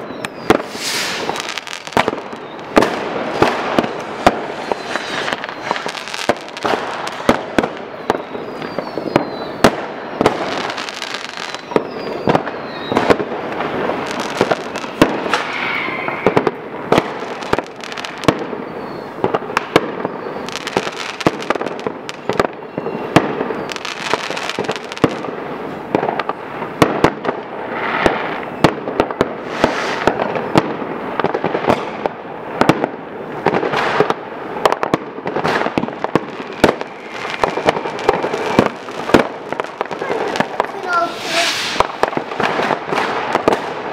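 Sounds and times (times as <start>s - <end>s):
falling firework whistles: 0.0s - 25.3s, 27.7s - 32.1s, 35.4s - 43.8s
crackle and hiss of rockets: 0.0s - 43.9s
fireworks bangs: 0.0s - 43.9s.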